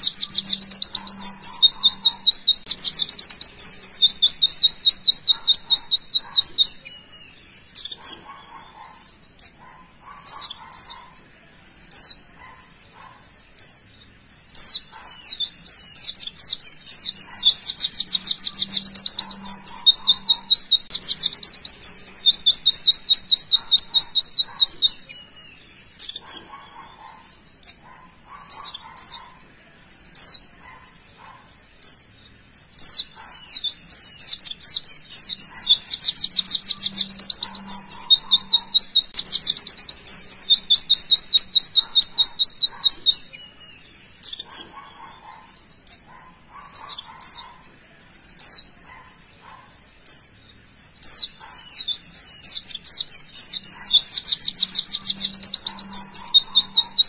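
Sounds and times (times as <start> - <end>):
bird singing rapid repeated high notes: 0.0 - 57.0.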